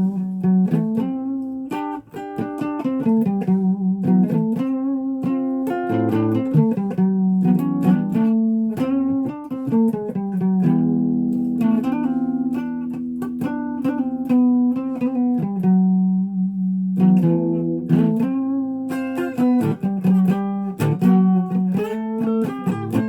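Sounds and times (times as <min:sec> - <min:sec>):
guitar picked notes and chords: 0:00.0 - 0:23.0.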